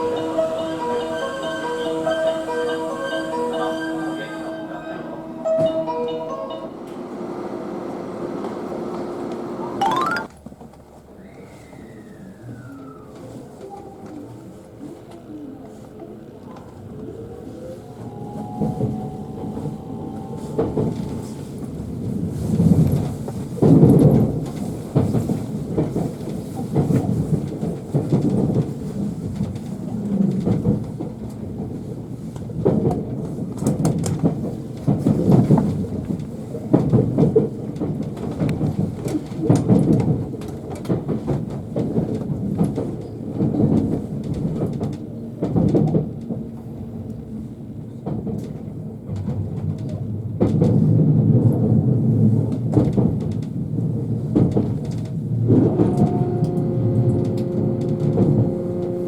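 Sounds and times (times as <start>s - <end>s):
train carriage rumble: 0.0s - 9.7s, 10.4s - 59.0s.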